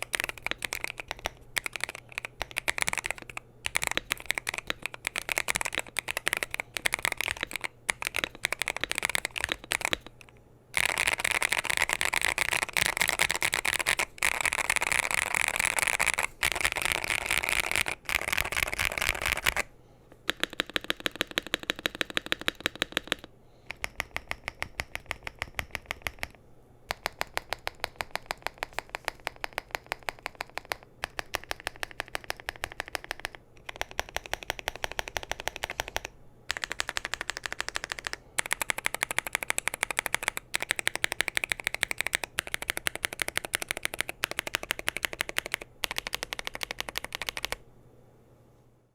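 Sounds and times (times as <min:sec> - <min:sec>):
keyboard typing: 0:00.0 - 0:47.6.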